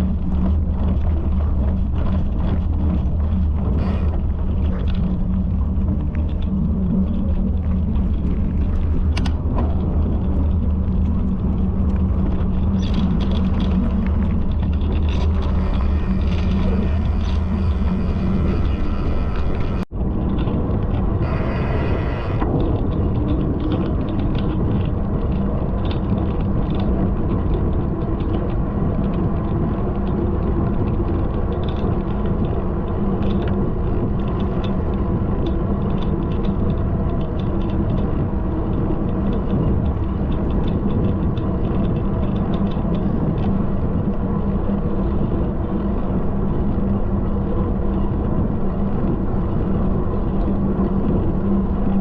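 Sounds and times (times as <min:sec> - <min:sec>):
loud low rumble: 0:00.0 - 0:52.0.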